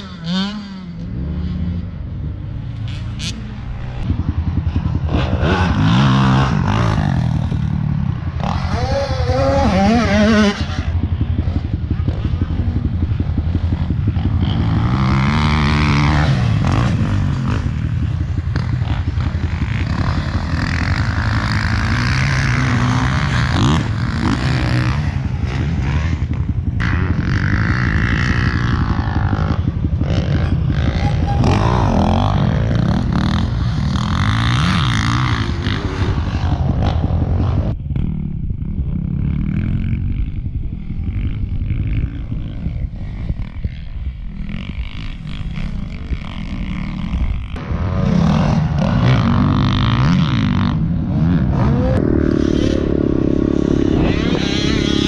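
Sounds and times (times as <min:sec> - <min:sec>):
dirt bike engine revving: 0:00.0 - 0:55.0
wind noise: 0:01.1 - 0:55.0.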